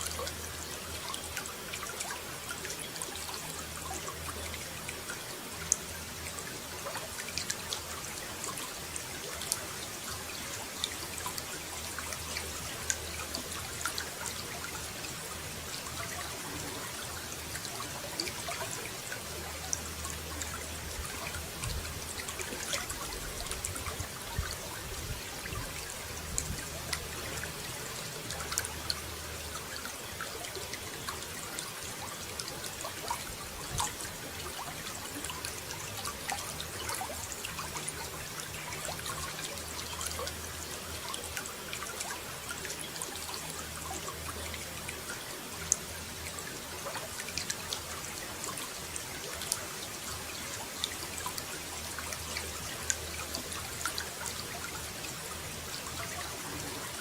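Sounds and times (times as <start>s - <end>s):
water trickling and pouring: 0.0s - 57.0s.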